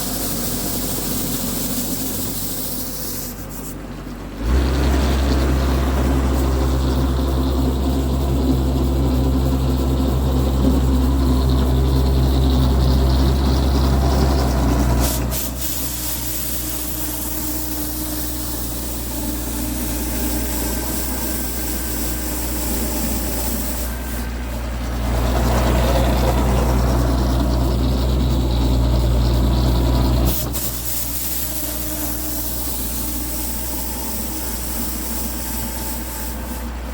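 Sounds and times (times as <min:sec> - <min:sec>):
engine humming: 0:00.0 - 0:36.9.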